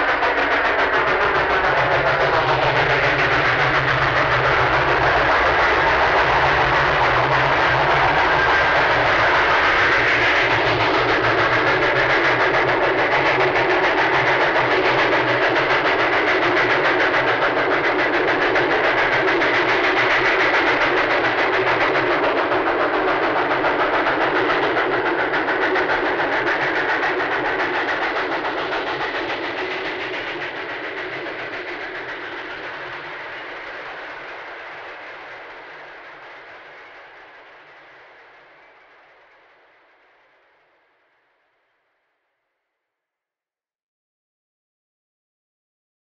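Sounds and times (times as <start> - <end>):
train rumbling on rails: 0.0 - 40.5.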